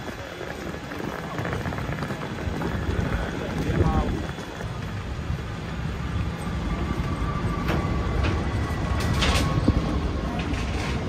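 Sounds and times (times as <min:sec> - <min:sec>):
road vehicles rumbling: 0:00.0 - 0:11.0.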